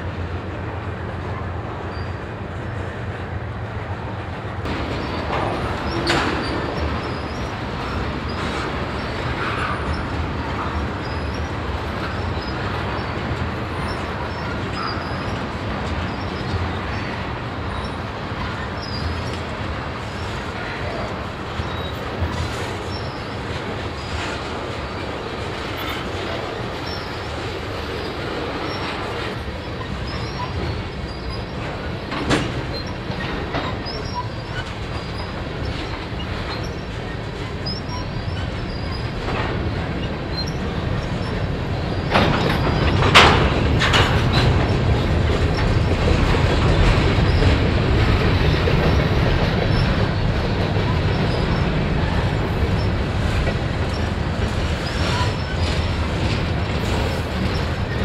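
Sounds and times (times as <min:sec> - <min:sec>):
freight train wheels rumbling: 0:00.0 - 0:58.0
sharp bangs of train cars: 0:04.6 - 0:58.0.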